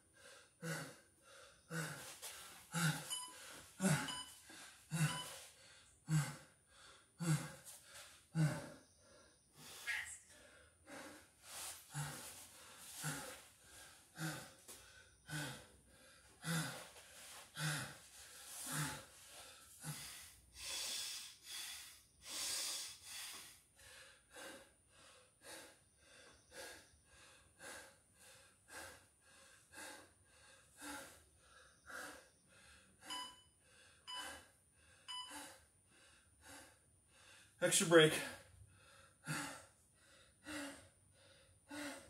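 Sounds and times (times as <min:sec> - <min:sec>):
man breathing hard and gasping: 0:00.1 - 0:42.0.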